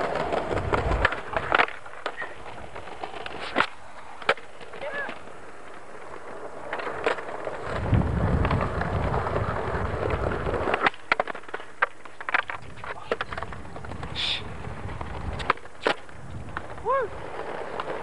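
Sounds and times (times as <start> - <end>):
skateboard clacks: 0.0 - 18.0
skateboard wheels rumbling on paving: 0.0 - 18.0.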